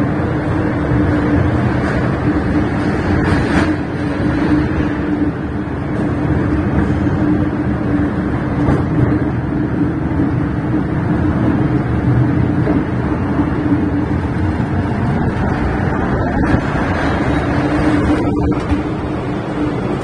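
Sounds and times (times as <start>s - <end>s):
constant hum: 0.0s - 20.0s
train wheels rumbling on track: 0.0s - 20.0s.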